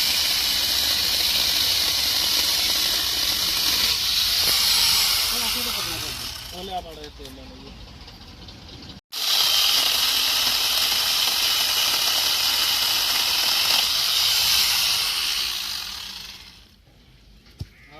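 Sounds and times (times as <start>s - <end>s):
angle grinder whirring: 0.0s - 7.0s, 9.1s - 16.8s.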